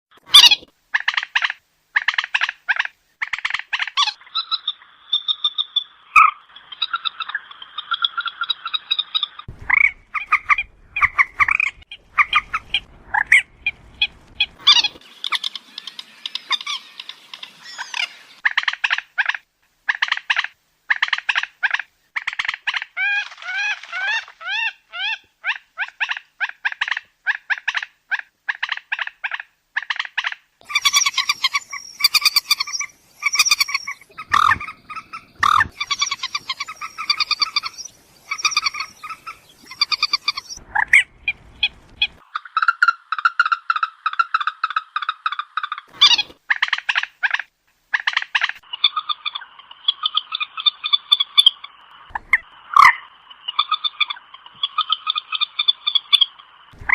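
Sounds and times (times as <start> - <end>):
moorhen clucking calls: 0.3 - 56.9.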